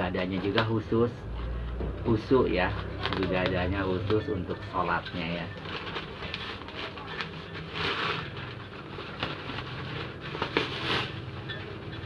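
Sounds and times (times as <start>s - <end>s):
bubble wrap crinkling: 2.1s - 12.0s.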